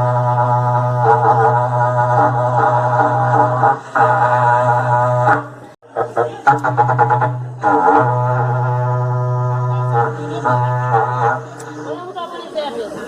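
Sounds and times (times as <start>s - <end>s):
horn blown with buzzing drone: 0.0s - 12.2s.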